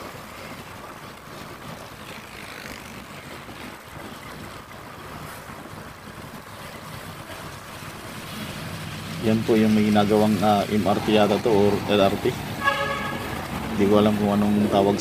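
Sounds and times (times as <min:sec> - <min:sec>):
motorcycle road and wind noise: 0:00.0 - 0:15.0.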